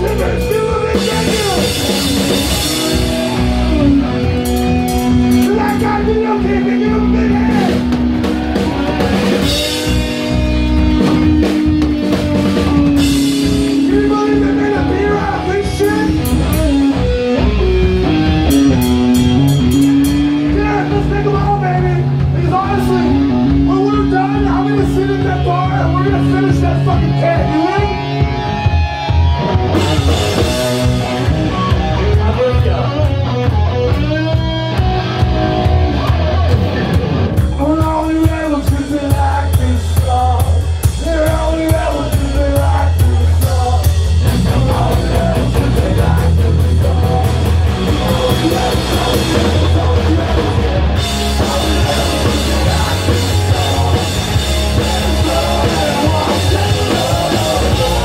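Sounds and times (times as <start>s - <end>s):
drum kit with cymbals: 0.0s - 58.0s
electric bass: 0.0s - 58.0s
electric guitars: 0.0s - 58.0s.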